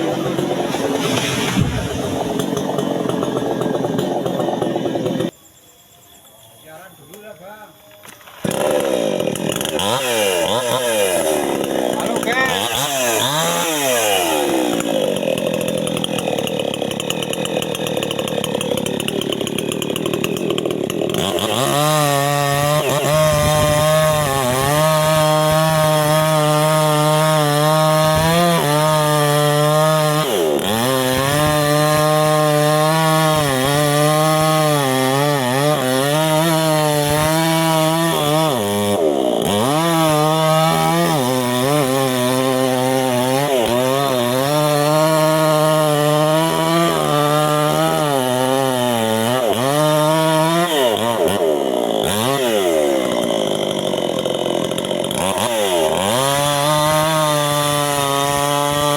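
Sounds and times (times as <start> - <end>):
chainsaw cutting wood: 0.0 - 5.4, 8.0 - 58.9.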